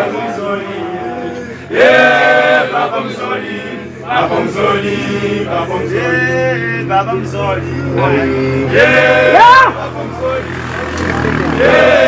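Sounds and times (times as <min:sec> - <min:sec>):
choir singing a hymn: 0:00.0 - 0:10.4, 0:11.3 - 0:12.0.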